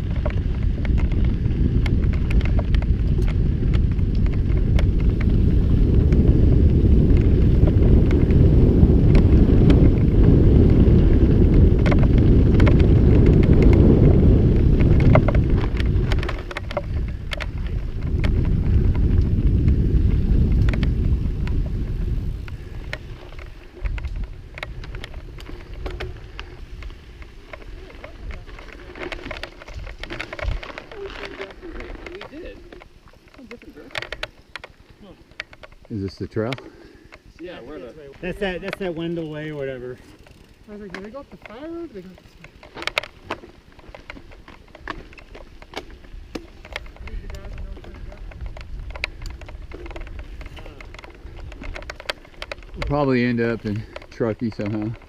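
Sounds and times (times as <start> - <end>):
wind rushing over microphone: 0.0 - 33.3, 41.7 - 55.0
bike clicking and rattling: 0.0 - 55.0
tyres crackling on dirt: 0.0 - 55.0.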